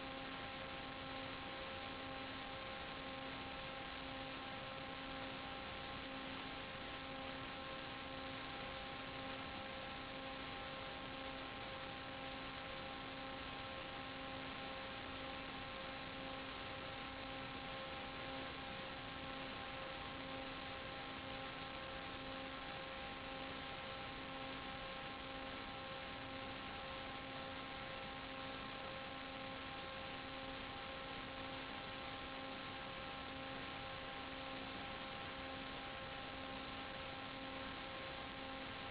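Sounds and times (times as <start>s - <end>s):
buzzing hum with hiss: 0.0s - 38.9s.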